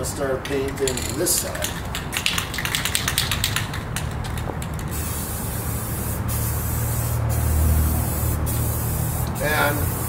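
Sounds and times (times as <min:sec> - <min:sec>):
spray can rattling: 0:00.4 - 0:10.0
spray can hissing: 0:00.9 - 0:10.0.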